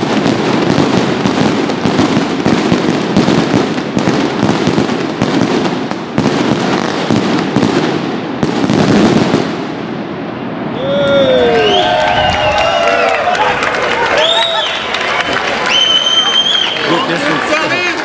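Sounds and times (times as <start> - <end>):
firecrackers exploding: 0.0 - 10.8, 11.4 - 18.0.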